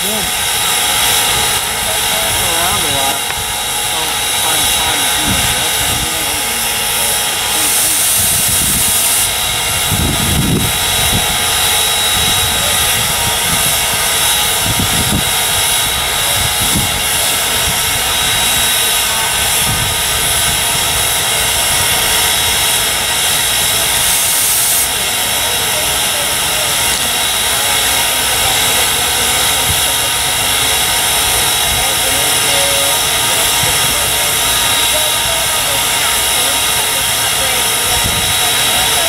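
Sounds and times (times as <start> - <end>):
steam locomotive hiss and roar: 0.0 - 39.0.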